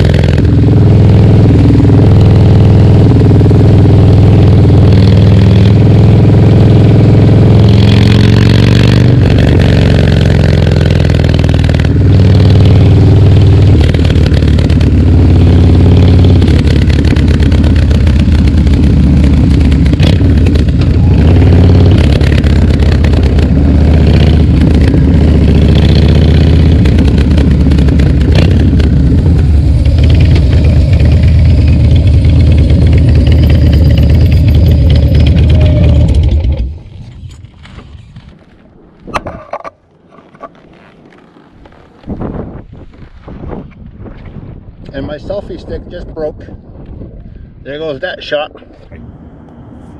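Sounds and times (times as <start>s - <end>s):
motorcycle engine revving: 0.0s - 43.6s.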